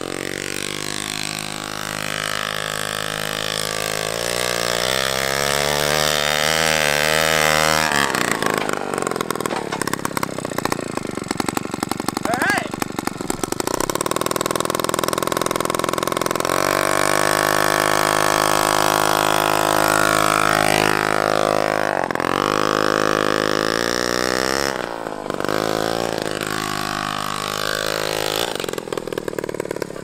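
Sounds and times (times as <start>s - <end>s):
moped engine revving: 0.0s - 30.0s.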